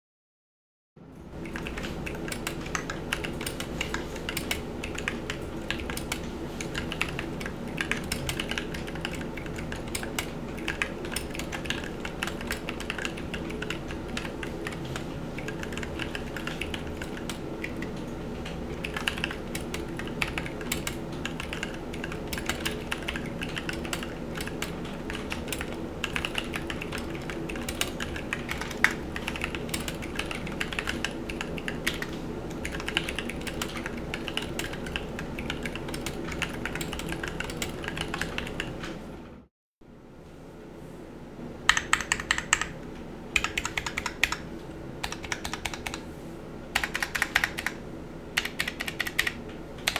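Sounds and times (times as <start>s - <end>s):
office fan humming: 1.0s - 49.9s
mechanical keyboard typing: 1.4s - 38.9s, 41.7s - 42.8s, 43.4s - 46.0s, 46.7s - 47.8s, 48.4s - 49.9s.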